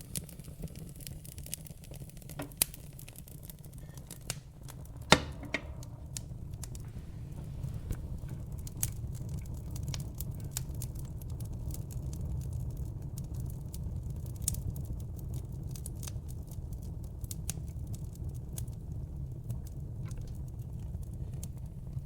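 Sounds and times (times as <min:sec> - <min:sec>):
wood logs crackling in fireplace: 0:00.0 - 0:22.0.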